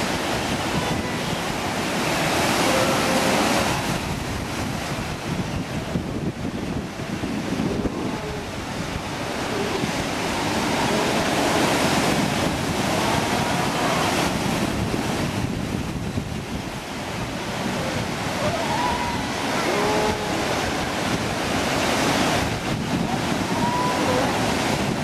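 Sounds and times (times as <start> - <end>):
surf washing on rocky shore: 0.0 - 25.0
wind buffeting microphone: 0.0 - 25.0.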